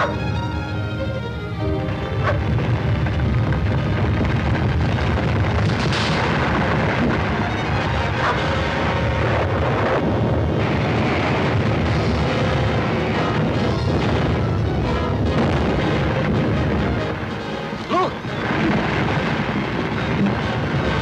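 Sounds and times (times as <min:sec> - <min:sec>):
background music: 0:00.0 - 0:21.0
deep rumble of volcanic eruption: 0:01.6 - 0:21.0.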